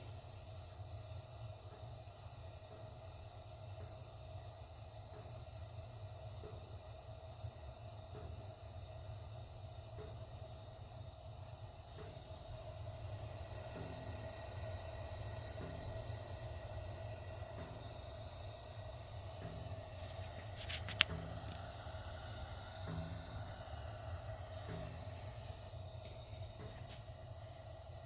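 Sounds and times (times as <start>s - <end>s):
gas flame hissing and rumbling: 0.0s - 28.0s.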